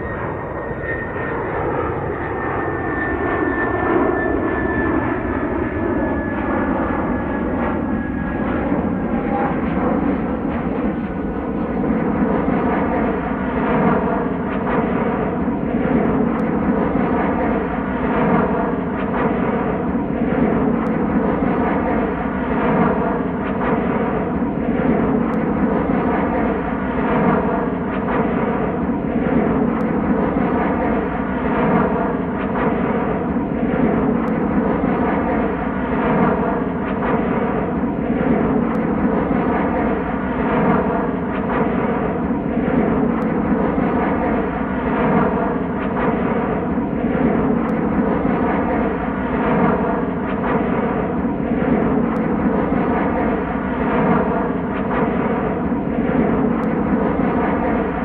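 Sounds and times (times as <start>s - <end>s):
jet airliner roaring overhead: 0.0s - 58.0s.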